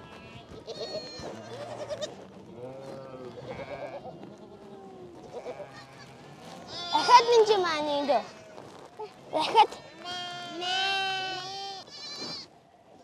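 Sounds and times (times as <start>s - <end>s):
goats bleating: 0.0s - 12.5s.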